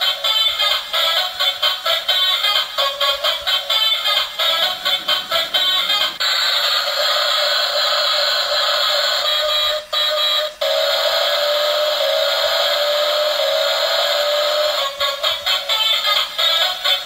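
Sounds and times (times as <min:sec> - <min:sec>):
electronic toy noise: 0:00.0 - 0:17.0.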